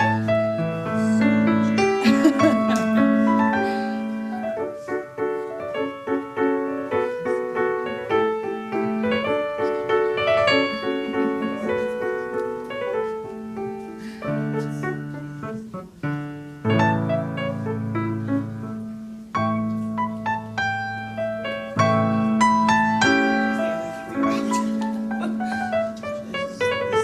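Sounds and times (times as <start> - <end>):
gentle piano piece: 0.0 - 27.0.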